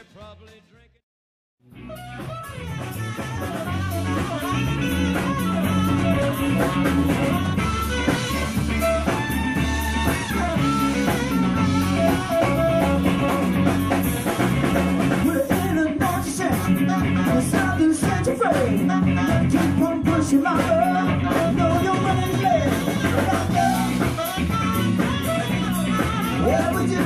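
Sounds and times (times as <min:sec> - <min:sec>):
rock music guitar and drums: 0:01.6 - 0:27.0.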